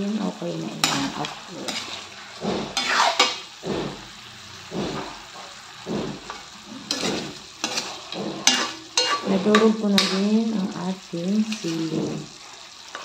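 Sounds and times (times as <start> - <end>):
sauce sizzling: 0.0 - 13.0
metal spatula scraping pan: 0.6 - 4.1, 5.0 - 10.5, 11.5 - 13.0.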